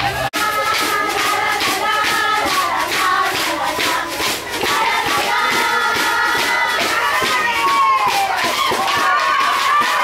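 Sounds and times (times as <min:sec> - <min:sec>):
voices singing over a beat: 0:00.0 - 0:10.0.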